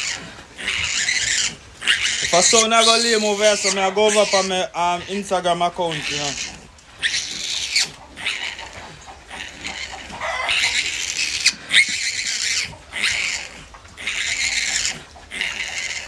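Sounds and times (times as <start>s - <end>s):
piglet squealing: 0.0s - 16.0s.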